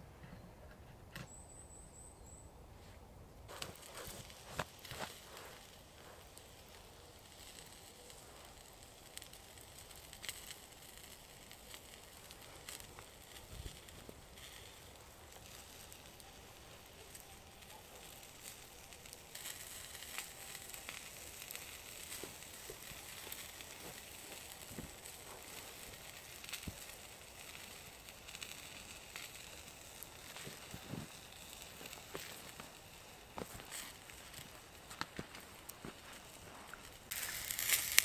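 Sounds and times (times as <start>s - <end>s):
steady high hiss: 1.3s - 38.0s
wood fire crackling: 3.4s - 38.0s.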